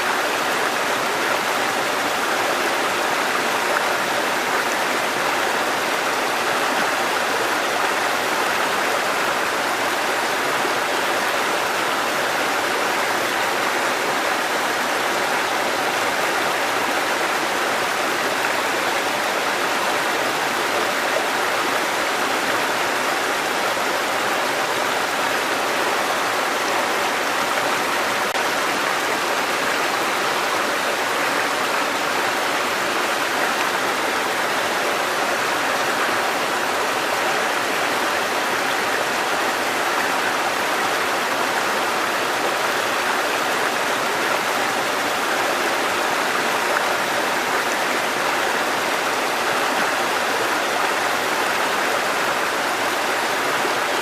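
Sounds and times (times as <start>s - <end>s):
stream water cascading over rocks: 0.0s - 54.0s.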